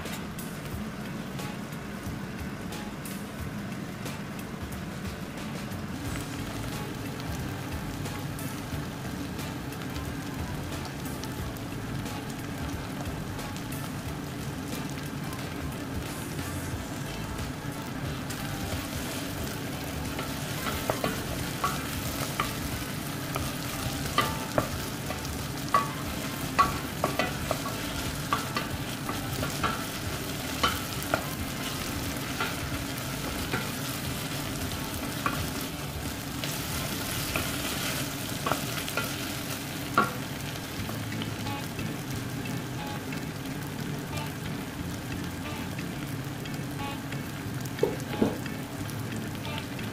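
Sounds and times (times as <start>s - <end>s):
onions and chillies sizzling in a pot: 0.0s - 49.9s.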